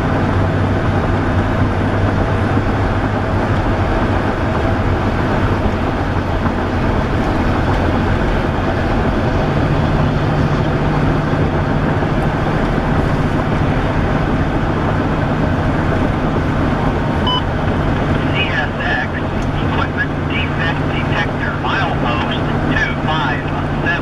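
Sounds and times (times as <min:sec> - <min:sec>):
car road and wind noise: 0:00.0 - 0:24.0
low even hum: 0:00.0 - 0:24.0.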